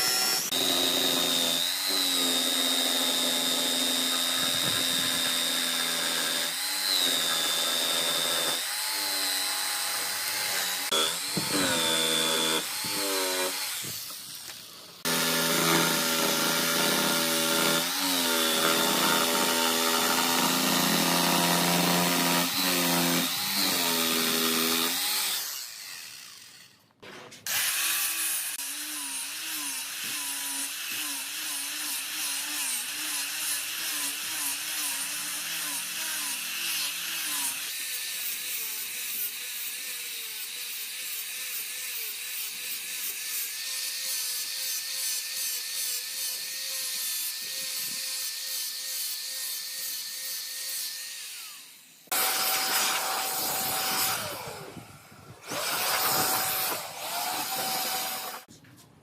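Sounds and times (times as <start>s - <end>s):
electric power tool cutting wood: 0.0s - 26.8s, 27.5s - 58.5s.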